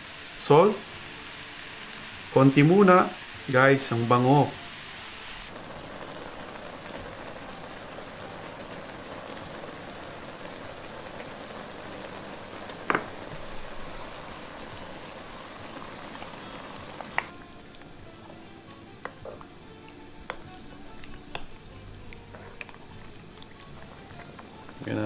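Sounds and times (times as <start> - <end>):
mushrooms sizzling in a pan: 0.0 - 25.0.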